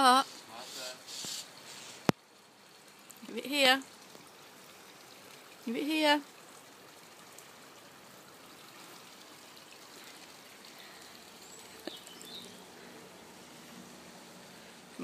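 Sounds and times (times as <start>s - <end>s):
faint outdoor background hiss: 0.0s - 15.0s.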